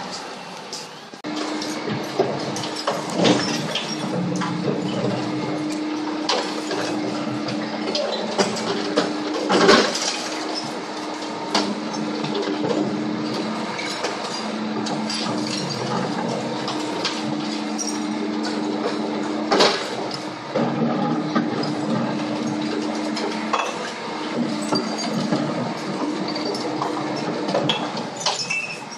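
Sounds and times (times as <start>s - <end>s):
garbage truck humming: 0.0s - 28.9s
bins clanking against lifter: 0.8s - 28.9s.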